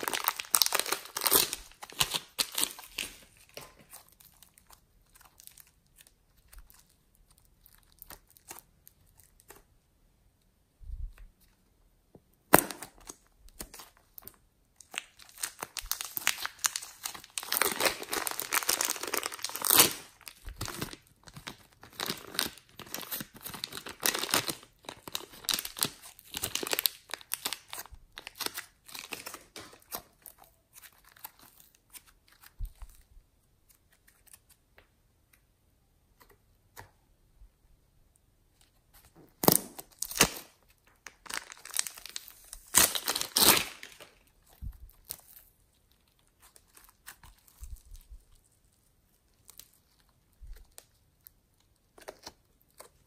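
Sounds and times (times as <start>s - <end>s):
plastic wrapper crinkling and tearing: 0.0s - 9.7s, 12.5s - 34.9s, 38.6s - 53.0s.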